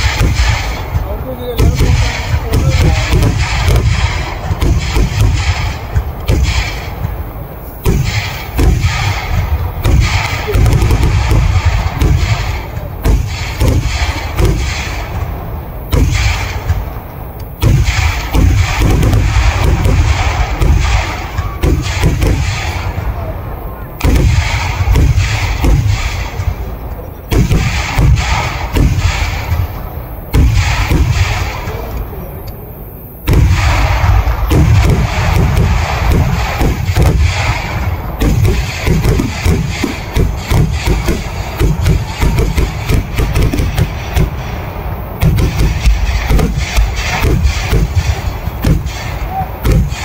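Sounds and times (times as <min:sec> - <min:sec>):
fireworks exploding: 0:00.0 - 0:50.0
sharp firework cracks: 0:00.0 - 0:50.0.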